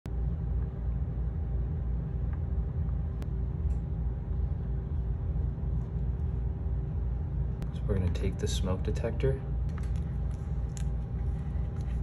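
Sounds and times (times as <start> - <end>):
low background rumble: 0.0 - 12.0
faint constant hum: 0.1 - 12.0.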